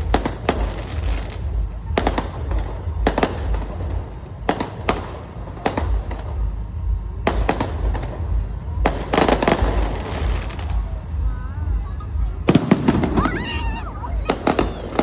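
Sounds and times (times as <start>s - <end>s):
constant low rumble: 0.0s - 15.0s
fireworks bangs: 0.0s - 15.0s
fireworks crackling: 0.0s - 15.0s.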